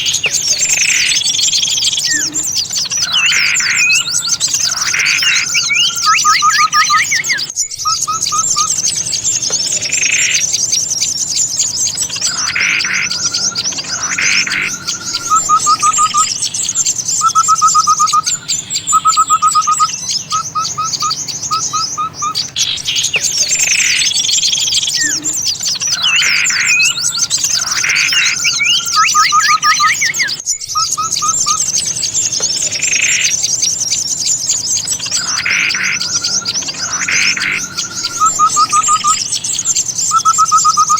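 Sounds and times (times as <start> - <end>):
small songbirds chirping and chattering: 0.0 - 40.9.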